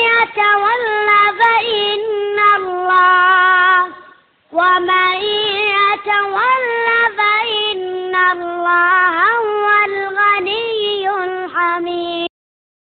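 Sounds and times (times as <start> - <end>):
child chanting melodically: 0.0 - 12.3.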